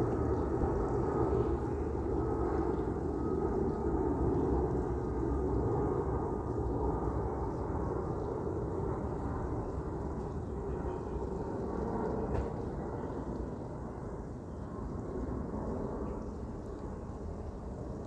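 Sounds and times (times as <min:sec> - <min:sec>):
faint jet engine whine: 0:00.0 - 0:18.0.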